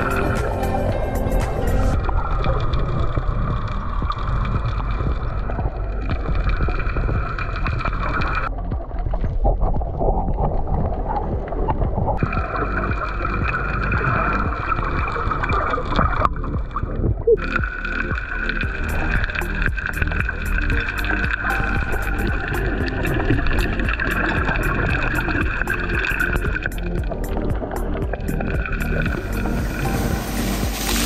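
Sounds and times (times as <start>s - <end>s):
rushing water: 0.0s - 31.0s
wind rumbling on microphone: 0.0s - 31.0s.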